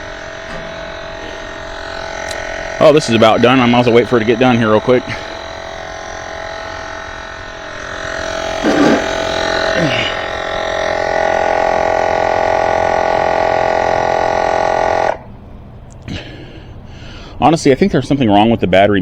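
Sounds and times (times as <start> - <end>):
tire inflator pump humming: 0.0 - 17.5.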